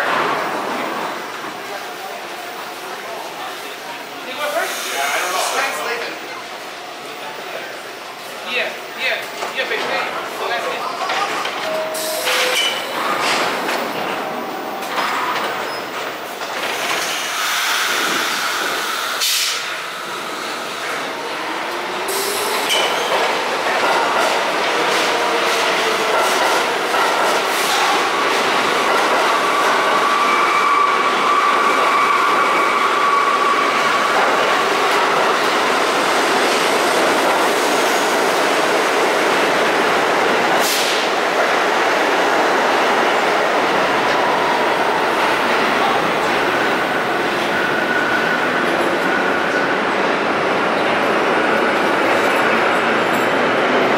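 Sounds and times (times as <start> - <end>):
subway train motors whining: 0.0 - 53.9.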